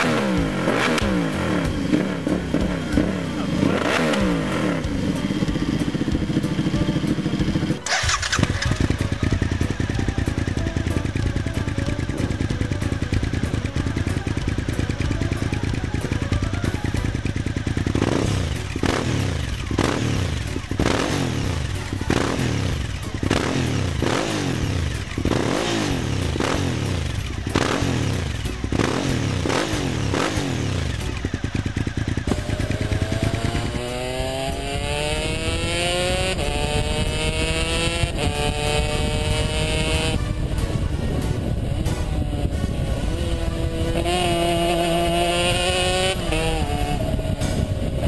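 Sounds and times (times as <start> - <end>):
motorcycle engine revving in blips: 0.0 - 48.0
two-stroke motorcycle accelerating: 0.0 - 48.0.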